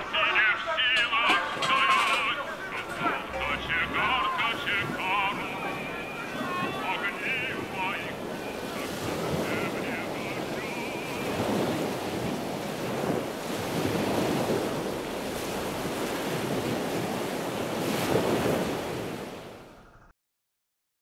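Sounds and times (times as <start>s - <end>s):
waves breaking: 0.0s - 19.8s.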